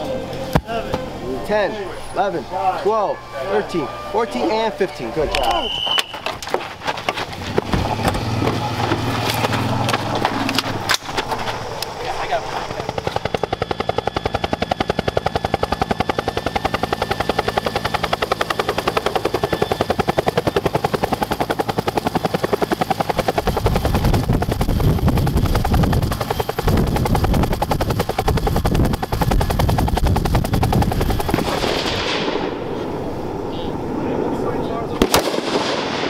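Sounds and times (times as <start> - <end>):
helicopter rotor chopping: 0.0 - 36.0.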